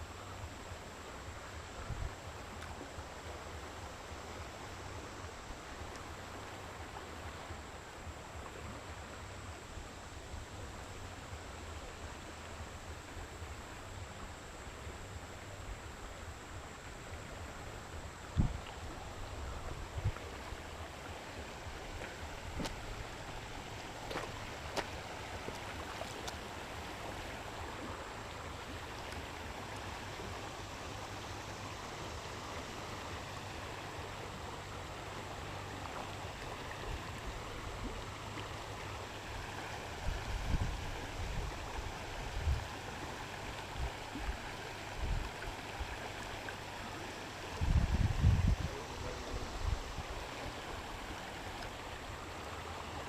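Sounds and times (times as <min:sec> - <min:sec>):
water rushing from dam: 0:00.0 - 0:53.0.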